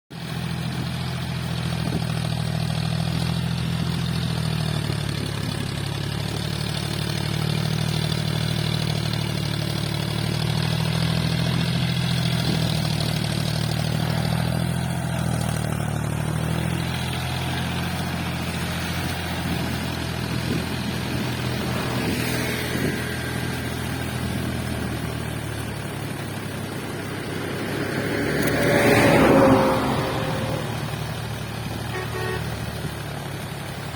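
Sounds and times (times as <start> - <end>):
tractor engine droning: 0.1 - 33.9.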